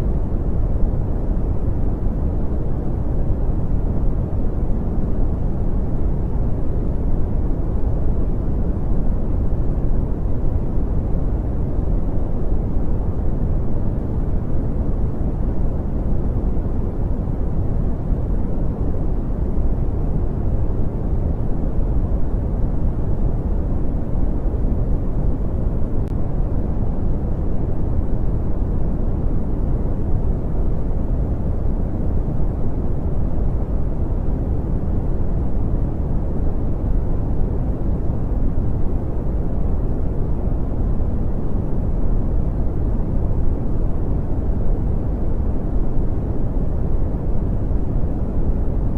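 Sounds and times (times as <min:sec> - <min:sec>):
deep rumbling brown noise: 0:00.0 - 0:48.9.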